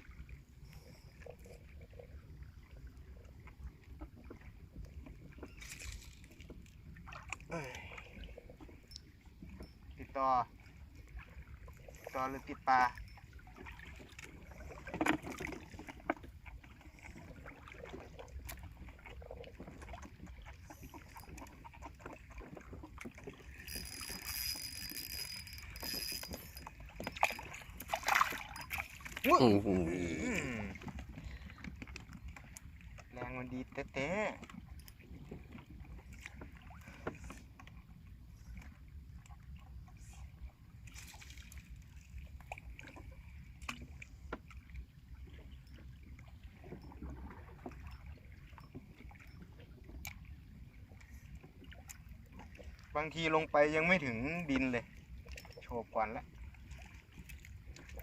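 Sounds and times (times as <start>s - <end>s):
low rumble of water and wind: 0.0s - 58.0s.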